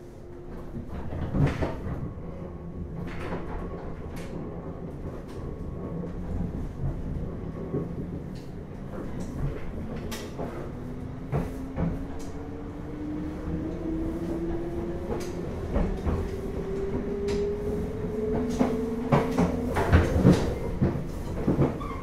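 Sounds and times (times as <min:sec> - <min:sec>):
train running gear hum: 0:00.0 - 0:22.0
wheels clacking on track: 0:00.5 - 0:22.0.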